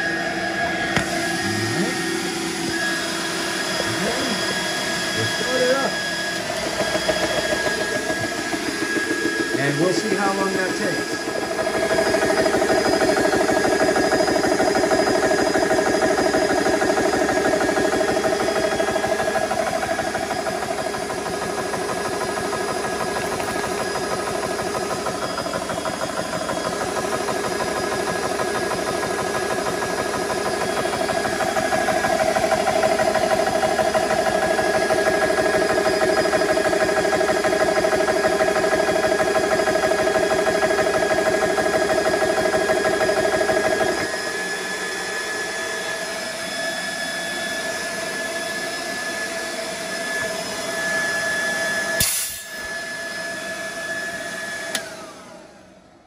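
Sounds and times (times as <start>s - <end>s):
compressor hum: 0.0s - 46.5s
air compressor pump beating: 0.0s - 55.5s.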